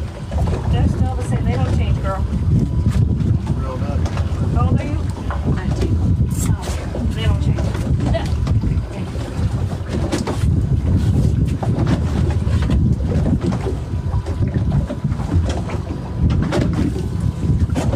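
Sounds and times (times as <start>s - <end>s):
wind rumbling on microphone: 0.0s - 17.9s.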